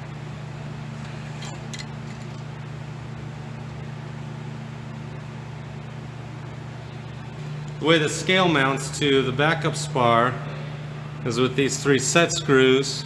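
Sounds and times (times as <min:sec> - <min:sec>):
machine shop hum: 0:00.0 - 0:13.0.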